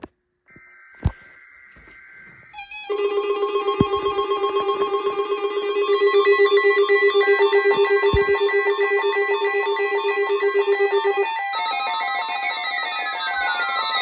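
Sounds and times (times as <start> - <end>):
pulsing electronic alarm: 0.5 - 14.0
faint steady high tone: 1.1 - 14.0.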